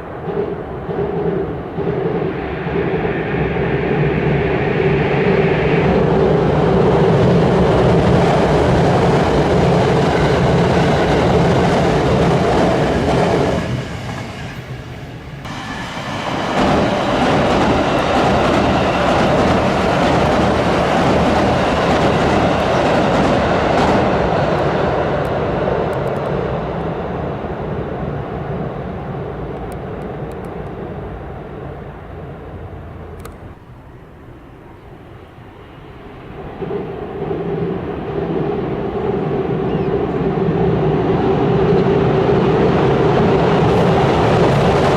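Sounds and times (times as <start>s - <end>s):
train crossing a bridge: 0.0s - 44.9s.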